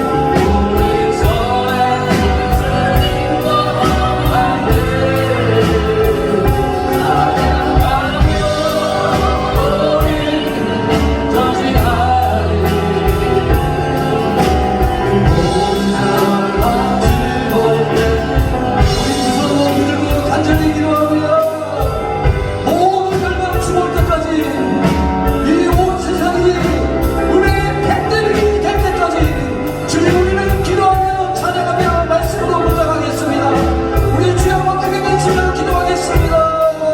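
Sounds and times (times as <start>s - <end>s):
band accompaniment with drum beat: 0.0s - 36.9s
voices singing: 0.0s - 36.9s.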